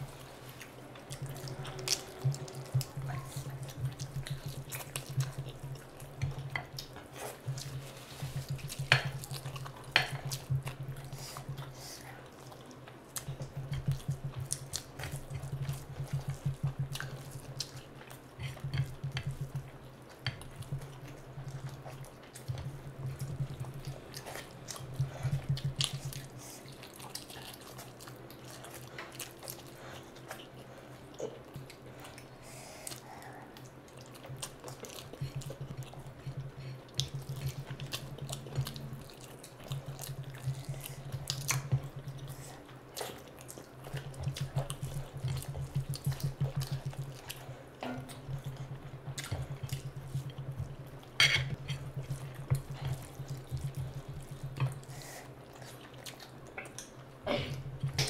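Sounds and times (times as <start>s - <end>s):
wet chewing and lip-smacking: 0.5s - 58.0s.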